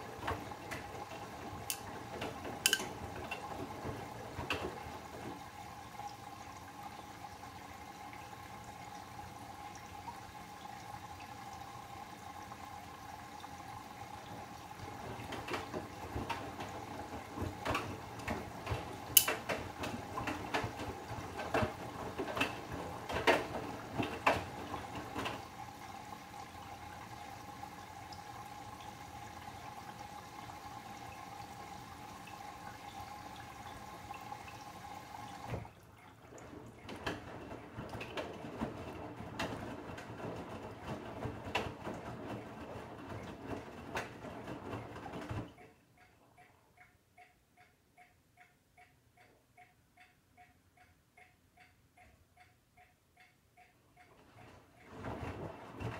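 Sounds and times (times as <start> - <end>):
washing machine hum: 0.0 - 47.2, 53.2 - 55.9.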